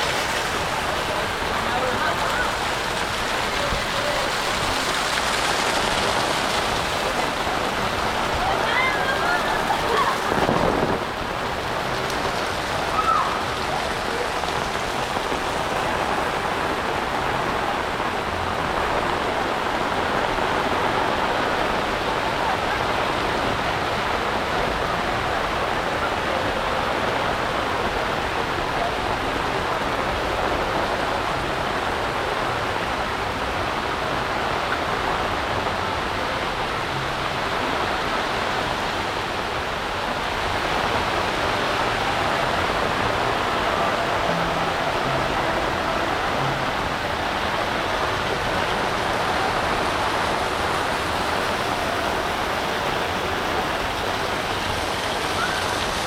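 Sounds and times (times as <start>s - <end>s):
heavy rain on ground: 0.0s - 56.0s.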